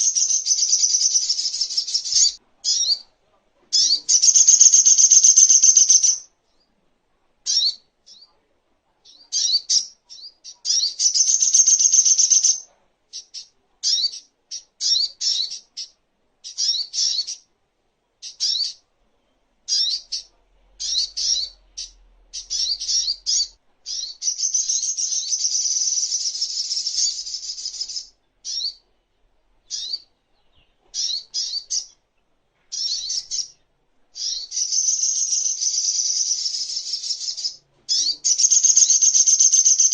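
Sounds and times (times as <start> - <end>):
bird chirping and chattering: 0.0 - 3.1, 3.7 - 6.3, 7.5 - 8.3, 9.0 - 17.5, 18.2 - 18.8, 19.7 - 28.8, 29.7 - 32.0, 32.7 - 33.6, 34.2 - 39.9.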